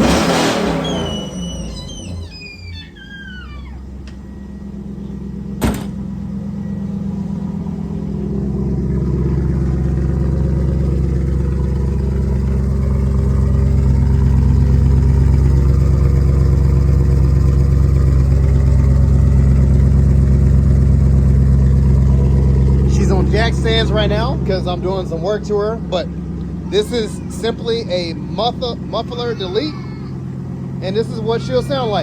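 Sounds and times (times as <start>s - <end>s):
car engine through open exhaust: 0.0s - 32.0s.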